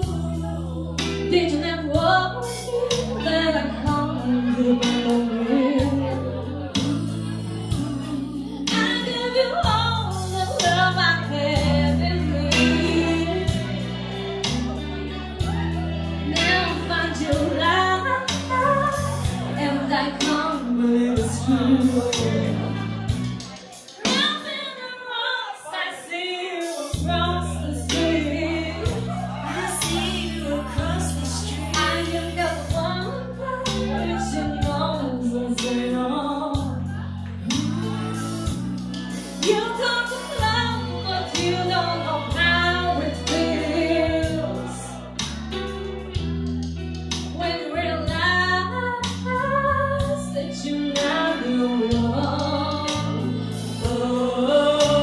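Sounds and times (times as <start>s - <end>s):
band with bass and drums: 0.0s - 24.5s, 26.9s - 55.0s
woman singing into microphone: 0.0s - 45.4s, 47.1s - 55.0s.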